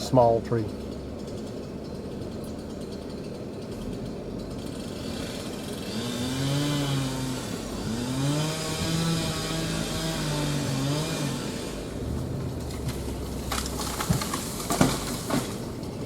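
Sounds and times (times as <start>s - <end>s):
chainsaw revving: 0.0s - 15.6s.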